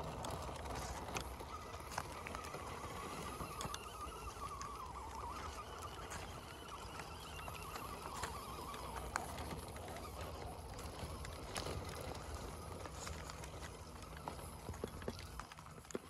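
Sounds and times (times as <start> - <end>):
electric motor and gearbox whine: 0.0 - 16.0.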